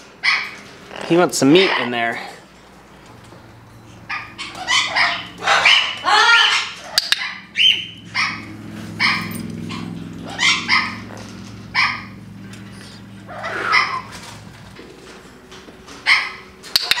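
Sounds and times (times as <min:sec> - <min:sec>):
parrots calling: 0:00.2 - 0:15.2, 0:15.9 - 0:17.0
steady low hum: 0:02.0 - 0:17.0.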